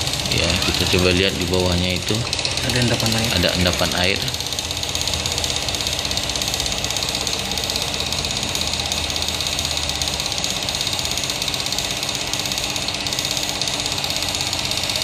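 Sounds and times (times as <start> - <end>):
small pump running: 0.0 - 15.0.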